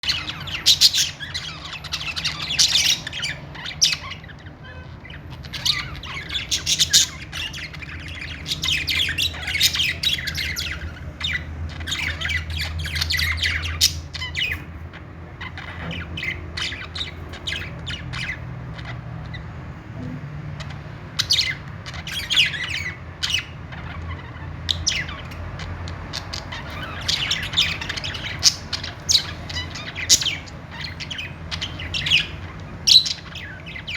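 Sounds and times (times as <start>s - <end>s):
budgerigars chirping and squawking: 0.0s - 33.9s.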